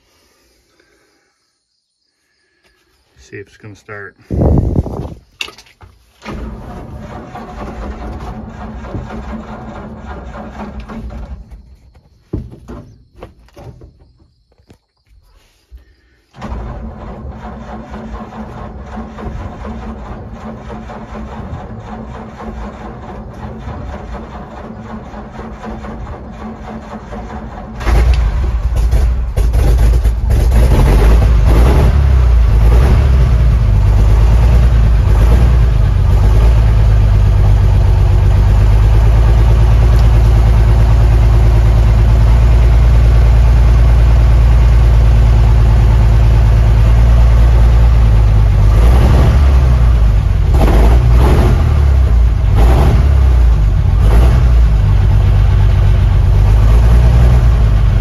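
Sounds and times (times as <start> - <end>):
truck engine starting and idling: 3.2 - 14.1, 15.8 - 58.0
engine revving: 6.2 - 11.3, 16.4 - 58.0.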